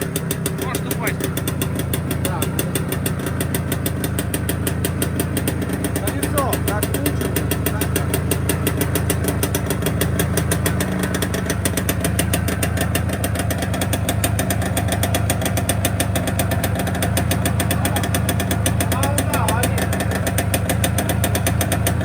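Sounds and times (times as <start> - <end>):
two-stroke engine running: 0.0 - 22.0.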